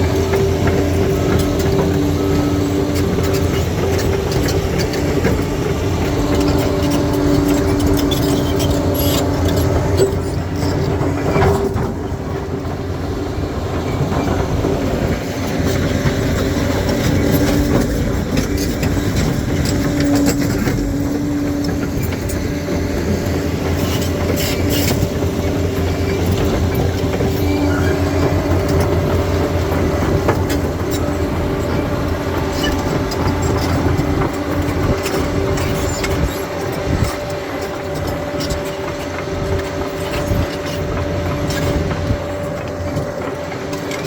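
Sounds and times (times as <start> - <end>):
bulldozer diesel engine: 0.0 - 44.0
steel tracks clanking: 0.0 - 44.0.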